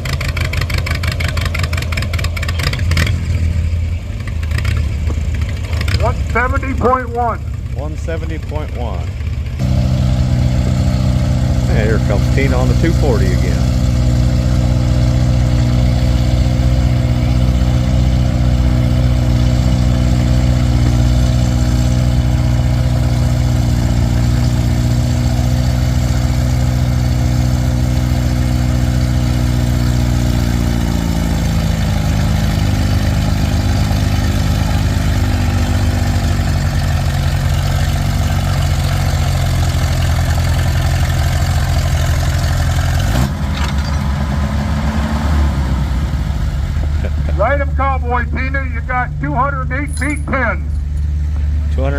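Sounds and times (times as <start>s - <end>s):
tractor engine at full throttle: 0.0s - 51.9s.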